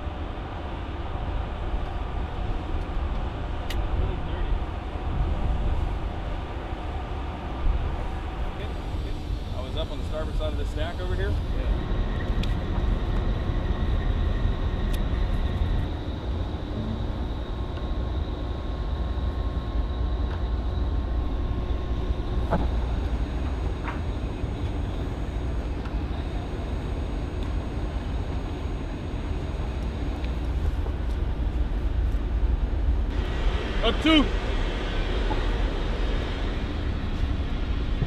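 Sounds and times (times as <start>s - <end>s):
faint machinery tones: 0.0s - 38.0s
ship rumble: 1.1s - 38.0s.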